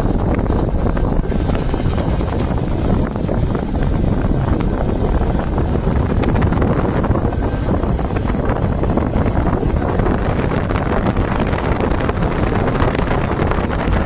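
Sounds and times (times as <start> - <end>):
motorcycle engine ticking clatter: 0.0 - 14.0.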